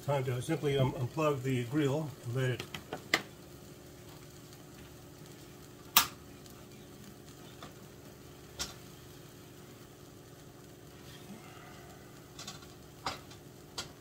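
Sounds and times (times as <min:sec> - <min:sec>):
vegetables sizzling in a skillet: 0:00.0 - 0:14.0.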